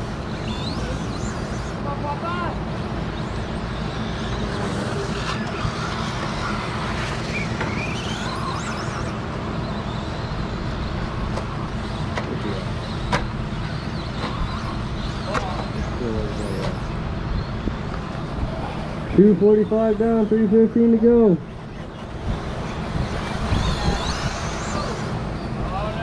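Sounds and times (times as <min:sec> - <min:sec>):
electric toy truck motors whining: 0:00.0 - 0:26.0.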